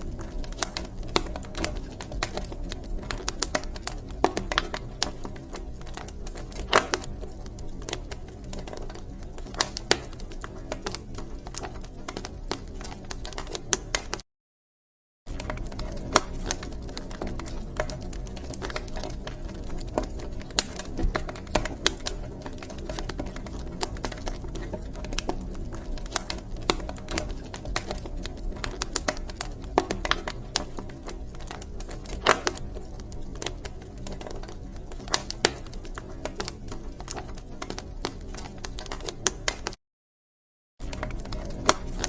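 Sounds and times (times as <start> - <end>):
low rumble of flames: 0.0 - 14.2, 15.3 - 39.8, 40.8 - 42.0
wood fire crackling and popping: 0.0 - 14.2, 15.3 - 39.8, 40.8 - 42.0.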